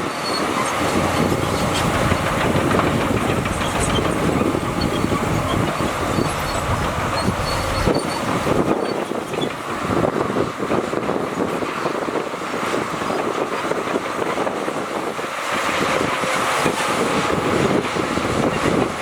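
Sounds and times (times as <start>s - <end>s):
bulldozer engine rumble: 0.0s - 19.0s
bulldozer tracks clanking: 0.0s - 19.0s.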